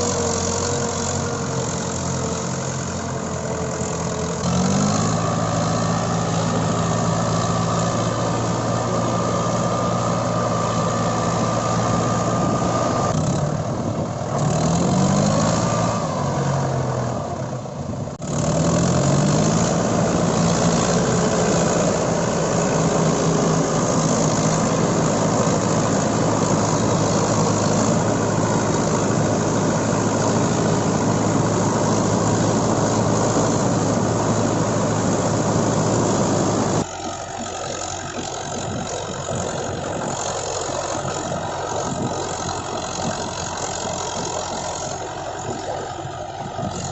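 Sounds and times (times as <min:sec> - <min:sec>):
diesel tractor engine revving: 0:00.0 - 0:46.9.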